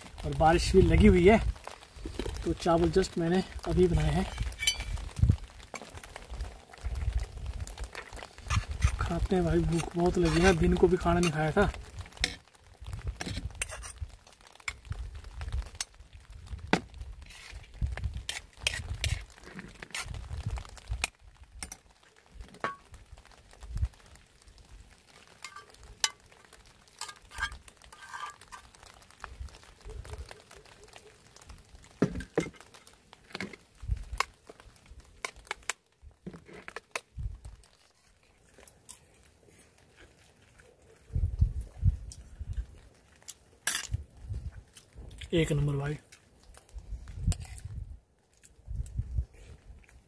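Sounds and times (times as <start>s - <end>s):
light crinkling: 0.0s - 50.0s.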